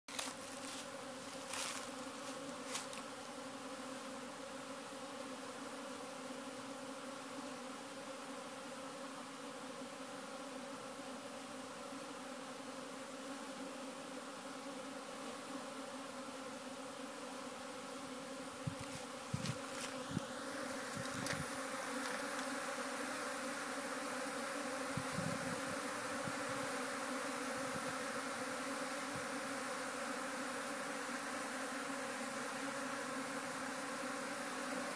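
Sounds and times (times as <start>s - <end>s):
bees buzzing: 0.1s - 34.9s.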